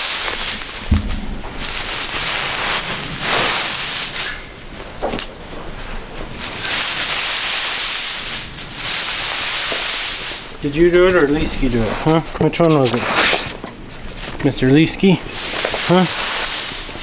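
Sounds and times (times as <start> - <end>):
dry hay rustling and crackling: 0.0 - 17.0.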